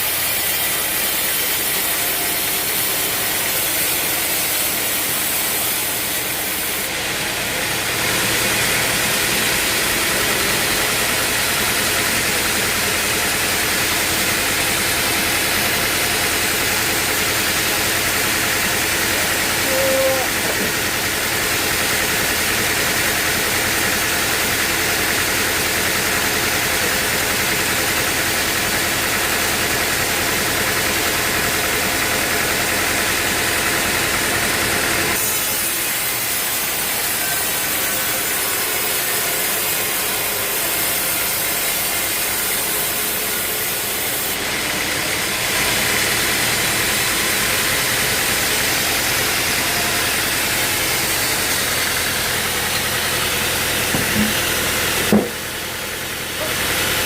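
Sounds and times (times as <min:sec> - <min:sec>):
saw cutting wood: 0:00.0 - 0:57.0
sawmill engine noise: 0:00.0 - 0:57.0.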